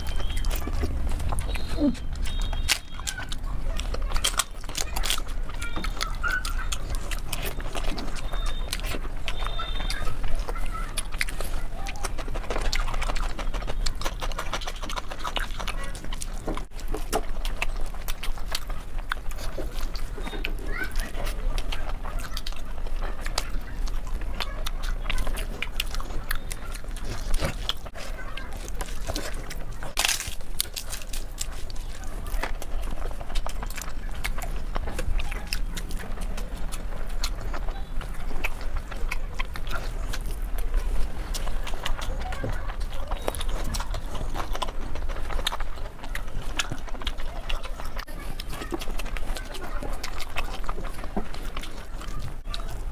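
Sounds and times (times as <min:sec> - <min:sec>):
wet chewing and lip smacking: 0:00.0 - 0:52.9.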